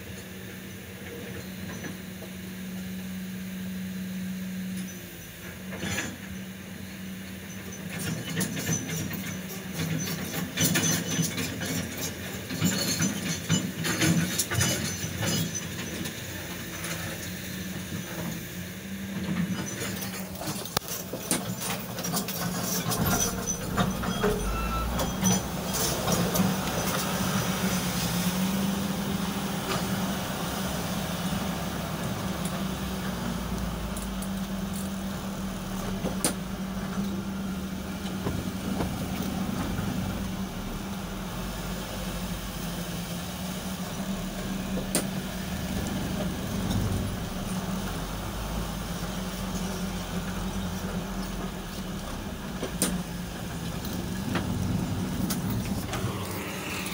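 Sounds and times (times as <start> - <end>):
excavator diesel engine drone: 0.0 - 56.9.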